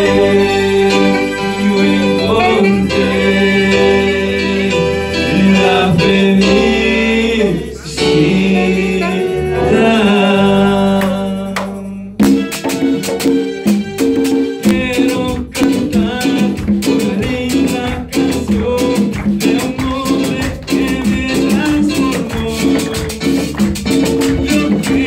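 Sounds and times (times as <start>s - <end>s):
men singing slow song: 0.0s - 12.2s, 14.6s - 23.4s, 24.3s - 25.0s
keyboard guitar and bass: 0.0s - 25.0s
sharp percussion hits: 4.6s - 25.0s.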